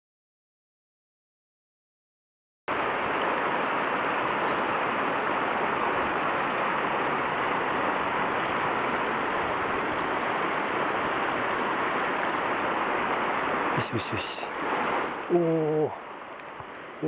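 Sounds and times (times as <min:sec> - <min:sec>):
river rushing over rocks: 0:02.7 - 0:17.0.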